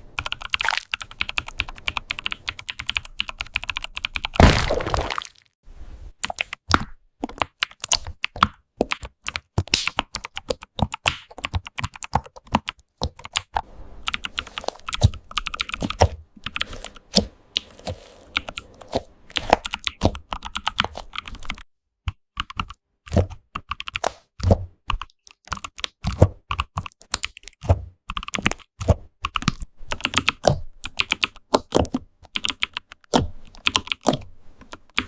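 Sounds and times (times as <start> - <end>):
computer keyboard typing: 0.2 - 4.4, 6.2 - 17.0, 17.6 - 24.1, 24.9 - 35.0.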